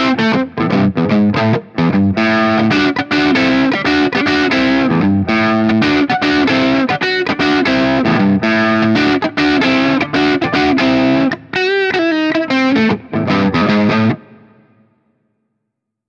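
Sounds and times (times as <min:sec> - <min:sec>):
electric guitar riff: 0:00.0 - 0:15.1.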